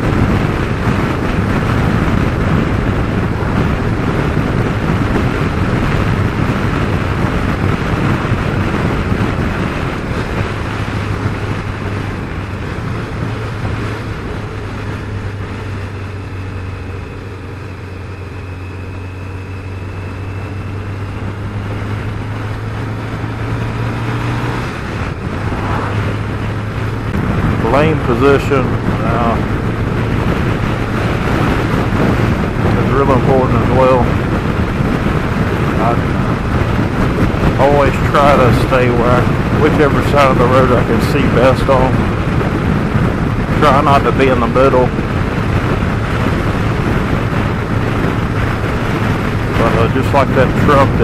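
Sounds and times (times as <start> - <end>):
motorcycle engine cruising: 0.0 - 51.0
wind rush on microphone: 0.0 - 51.0.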